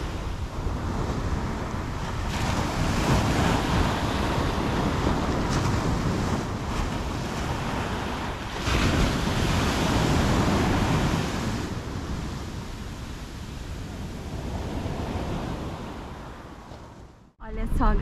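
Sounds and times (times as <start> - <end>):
ocean surf on sandy beach: 0.0 - 18.0
wind on microphone: 0.0 - 18.0.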